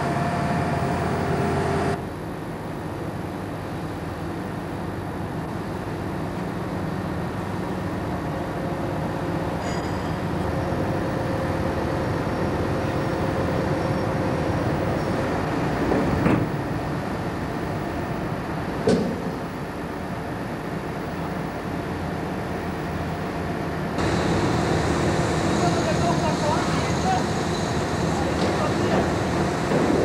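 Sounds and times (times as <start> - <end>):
crane mechanical rumble: 4.9 - 30.0.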